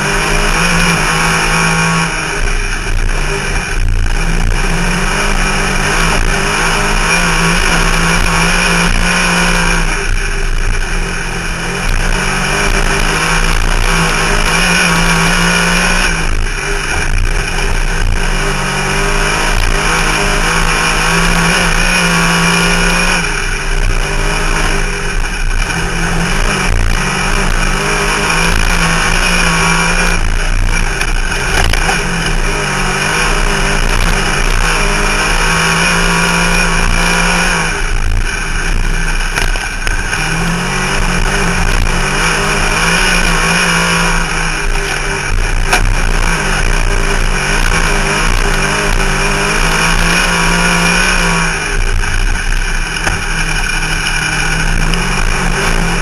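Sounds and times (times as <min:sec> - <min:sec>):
race car engine revving: 0:00.0 - 0:56.0
road and wind noise: 0:00.0 - 0:56.0.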